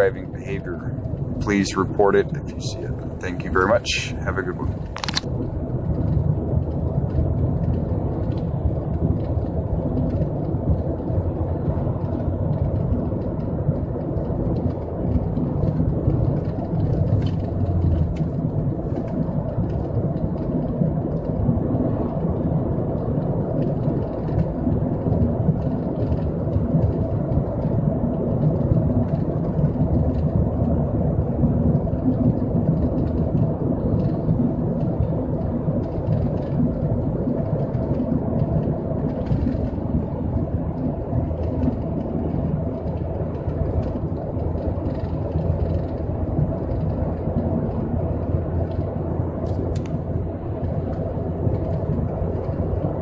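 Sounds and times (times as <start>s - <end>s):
car cabin road and engine noise: 0.0s - 53.0s.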